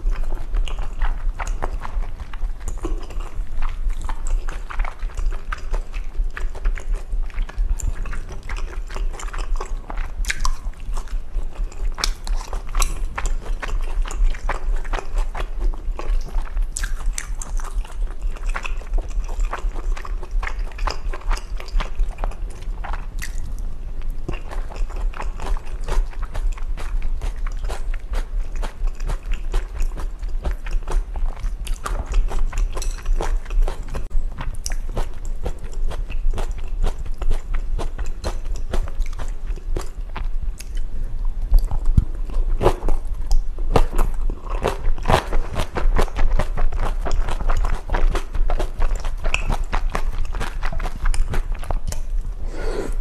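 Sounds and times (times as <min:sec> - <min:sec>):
wet chewing and biting noodles: 0:00.0 - 0:53.0.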